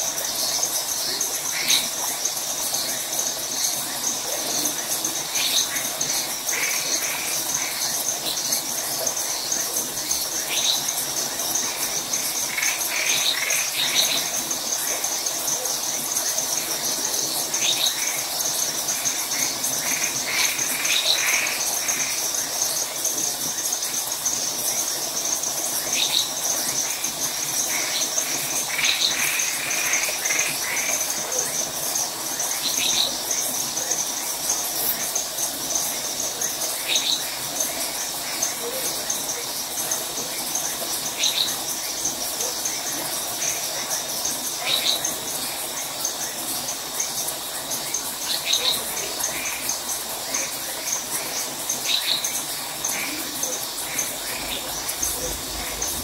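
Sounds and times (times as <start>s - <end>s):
crickets trilling: 0.0s - 56.0s
frogs calling: 0.0s - 56.0s.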